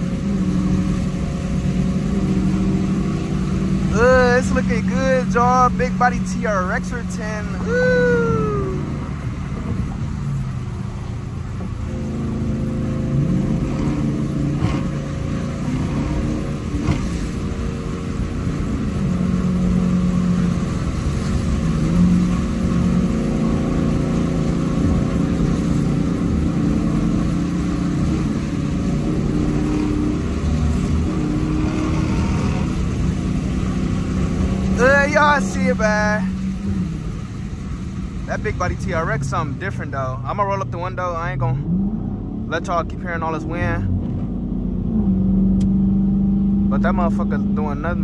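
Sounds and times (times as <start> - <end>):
wind rushing through car window: 0.0 - 46.7
car engine droning: 0.0 - 48.0.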